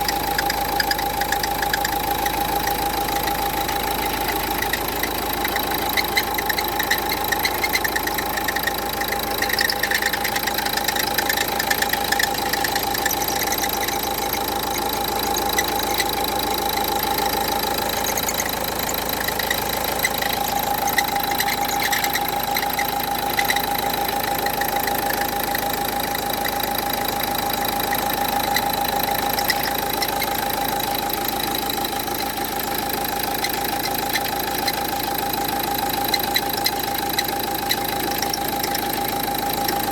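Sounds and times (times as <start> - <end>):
alternator pulley whine: 0.0 - 39.9
diesel engine idling: 0.0 - 39.9.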